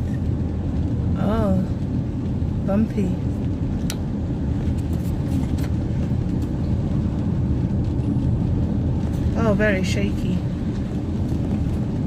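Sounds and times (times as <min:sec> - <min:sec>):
rumble of tyres on road: 0:00.0 - 0:12.0.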